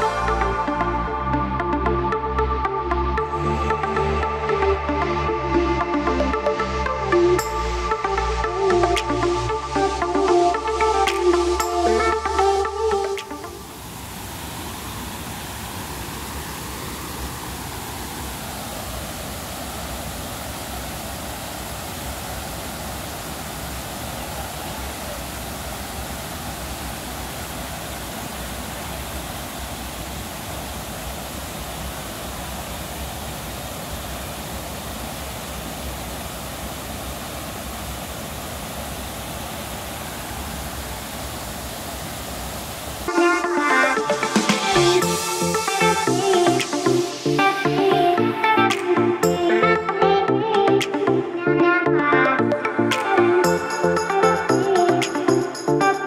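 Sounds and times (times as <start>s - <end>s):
water rushing over cascades: 0.0s - 56.0s.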